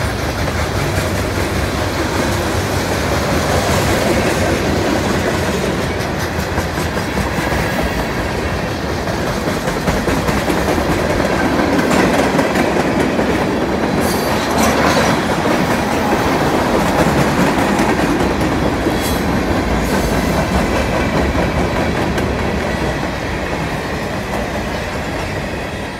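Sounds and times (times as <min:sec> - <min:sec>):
freight train wheels rumbling: 0:00.0 - 0:25.9
wheels clacking over rail joints: 0:00.0 - 0:25.9.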